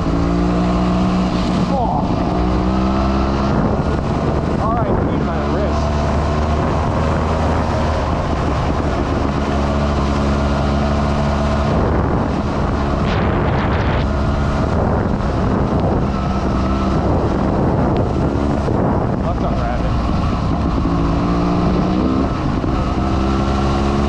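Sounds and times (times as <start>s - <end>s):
motorcycle engine running: 0.0s - 24.0s
wind on microphone: 0.0s - 24.0s.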